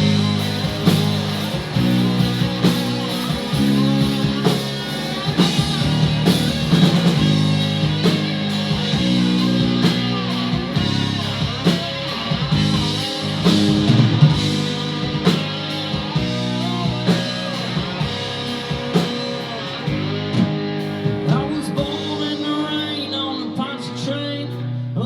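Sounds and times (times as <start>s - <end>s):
electric guitar bending notes: 0.0s - 24.2s
rock band instrumental: 0.0s - 25.0s.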